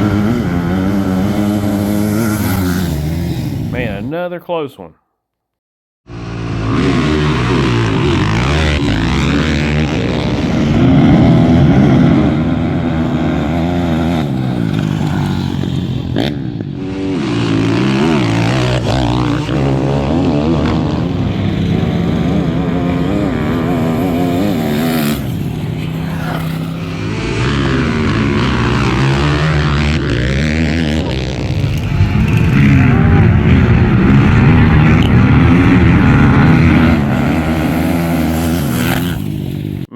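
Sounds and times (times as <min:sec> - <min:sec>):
dirt bike and atv engines revving: 0:00.0 - 0:04.2, 0:06.1 - 0:39.9.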